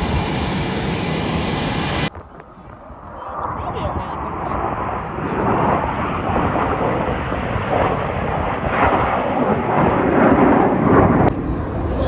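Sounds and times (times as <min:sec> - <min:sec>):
aircraft engine rush: 0:00.0 - 0:02.1, 0:04.2 - 0:12.0.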